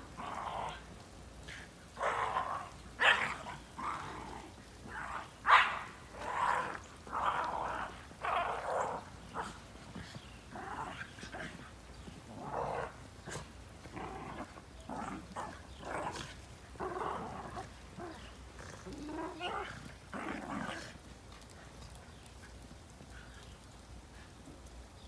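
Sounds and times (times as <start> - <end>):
dog growling in play: 0.1 - 1.0, 2.0 - 21.1.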